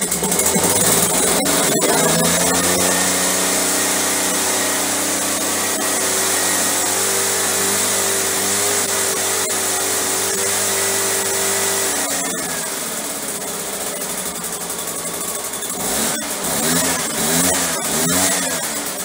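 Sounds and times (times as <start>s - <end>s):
leaf blower engine running: 0.0s - 19.0s.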